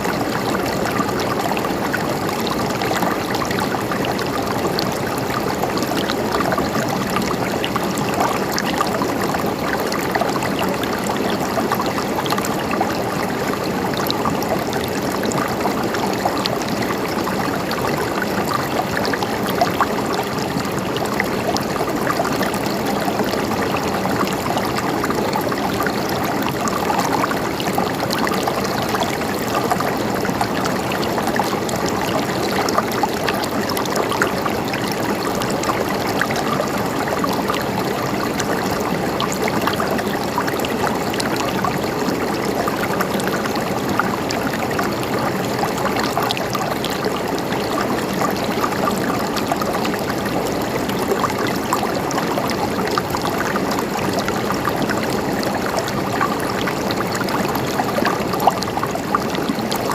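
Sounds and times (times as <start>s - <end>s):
stream trickling and gurgling: 0.0s - 59.9s.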